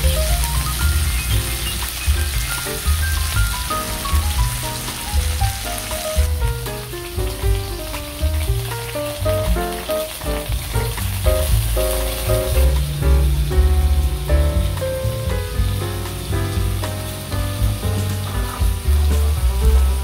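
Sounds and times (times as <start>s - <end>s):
background music with heavy bass: 0.0s - 20.0s
chicken sizzling in oil: 0.0s - 20.0s.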